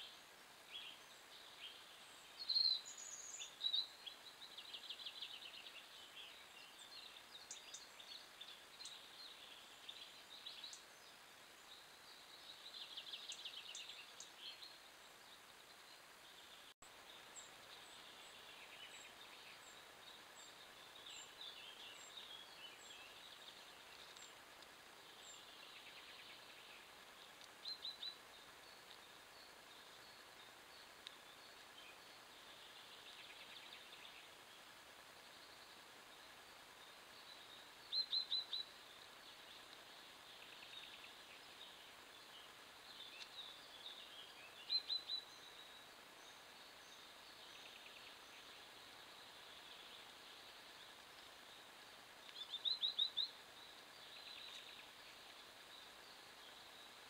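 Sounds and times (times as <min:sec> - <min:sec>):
birds singing and chirping: 0:00.0 - 0:57.0
steady background hiss: 0:00.0 - 0:57.0.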